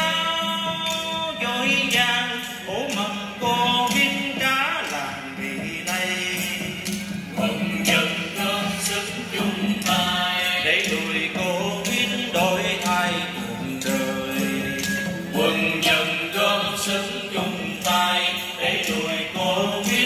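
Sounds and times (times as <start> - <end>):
hand percussion clicks: 0.0 - 20.0
held instrumental tone: 0.0 - 20.0
several voices singing folk song: 0.0 - 20.0.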